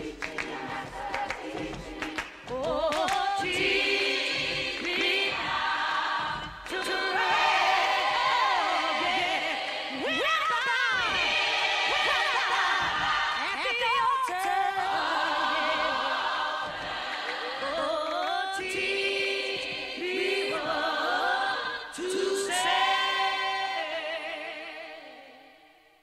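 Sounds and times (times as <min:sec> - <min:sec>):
choir singing gospel song: 0:00.0 - 0:25.9.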